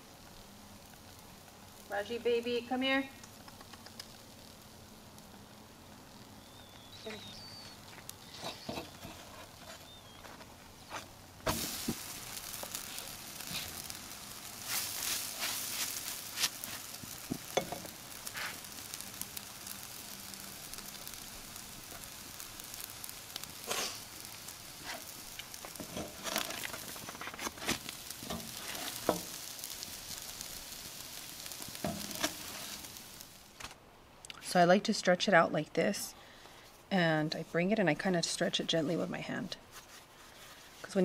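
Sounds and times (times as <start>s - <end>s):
dough sizzling on a grill: 0.0s - 33.8s, 36.3s - 41.0s.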